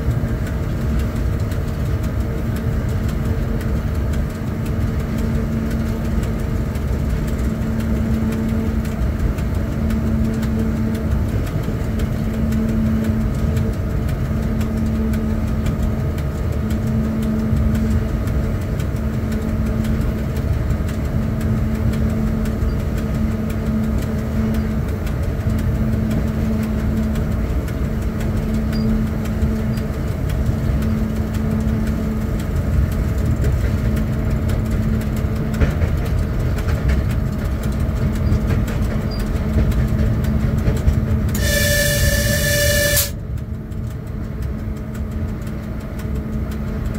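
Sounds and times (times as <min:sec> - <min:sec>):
locomotive hum: 0:00.0 - 0:46.9
train rumbling: 0:00.0 - 0:46.9.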